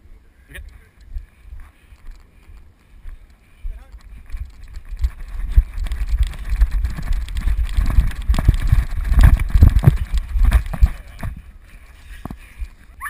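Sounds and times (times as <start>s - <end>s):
wind buffeting camera: 0.0s - 13.0s
running footfalls on grass: 1.1s - 13.0s.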